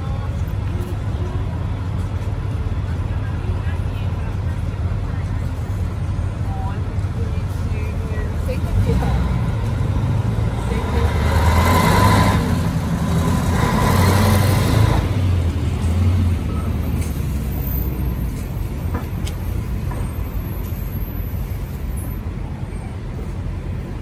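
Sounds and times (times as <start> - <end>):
heavy vehicle engine running: 0.0 - 24.0
steady traffic hum: 0.0 - 24.0.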